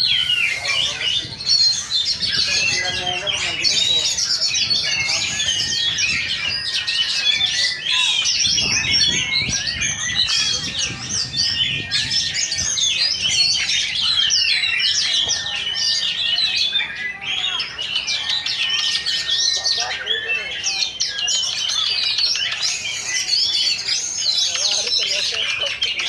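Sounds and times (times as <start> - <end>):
chorus of birds singing: 0.0 - 26.0.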